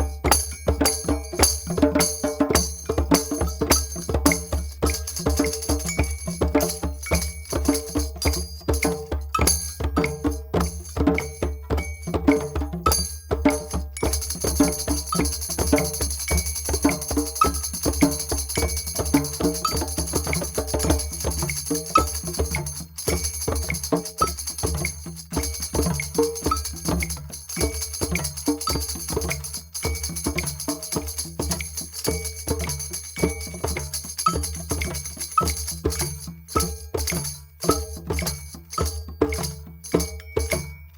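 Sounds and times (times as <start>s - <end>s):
drums played in quick rhythm: 0.0s - 40.9s.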